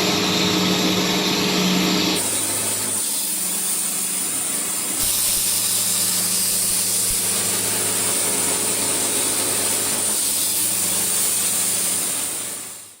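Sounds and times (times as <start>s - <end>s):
sawmill engine hum: 0.0s - 12.9s
saw hissing: 2.2s - 13.0s.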